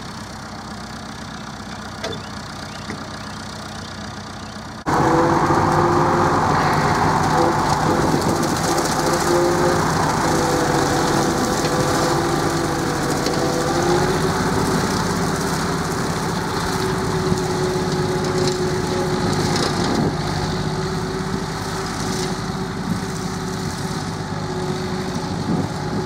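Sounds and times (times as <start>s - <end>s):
rotary mower cutting grass: 0.0s - 26.0s
tractor engine running: 0.0s - 26.0s.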